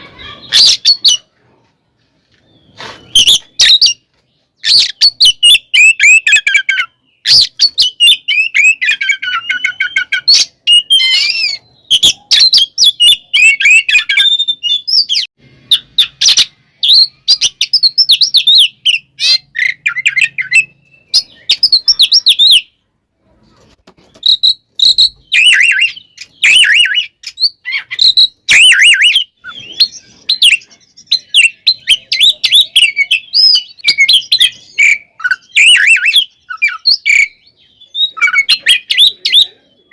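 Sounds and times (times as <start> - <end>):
bird singing whistled notes: 4.6 - 22.8, 24.1 - 39.9.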